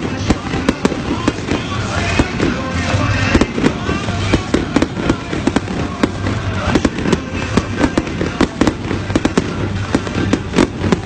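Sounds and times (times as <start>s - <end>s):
crowd voices: 0.0s - 11.0s
fireworks cracking and banging: 0.0s - 11.0s.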